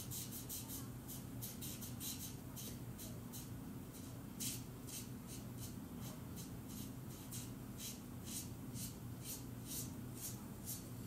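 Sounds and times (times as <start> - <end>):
colouring strokes on paper: 0.1 - 10.9.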